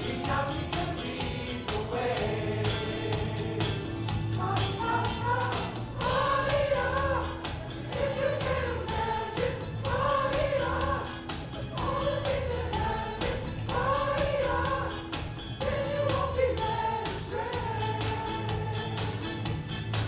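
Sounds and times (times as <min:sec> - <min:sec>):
backing track with steady beat: 0:00.0 - 0:20.0
group singing in chorus: 0:00.0 - 0:20.0.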